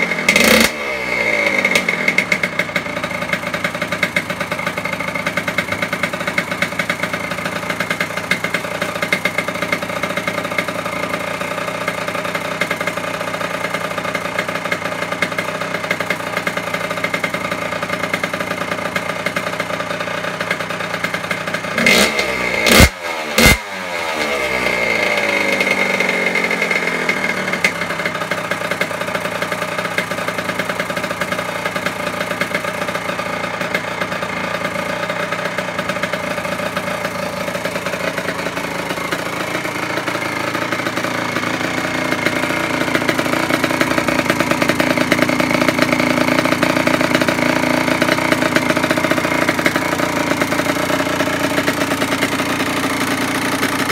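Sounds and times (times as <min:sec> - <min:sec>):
two-stroke engine revving and idling: 0:00.0 - 0:53.9.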